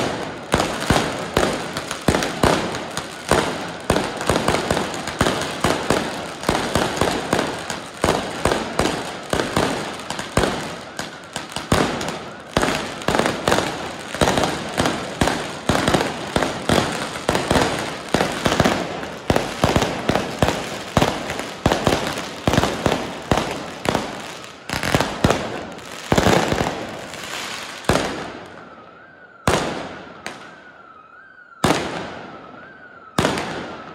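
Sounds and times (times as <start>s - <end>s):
firework bangs: 0.0s - 28.8s, 29.4s - 30.7s, 31.6s - 33.9s.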